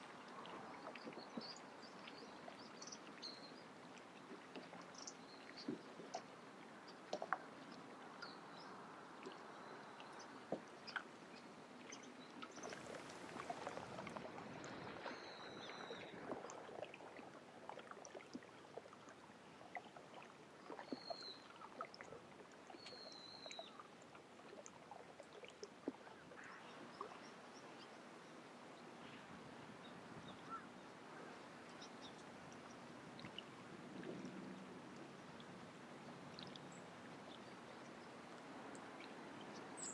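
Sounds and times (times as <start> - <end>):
water lapping splashes: 0.0 - 39.9.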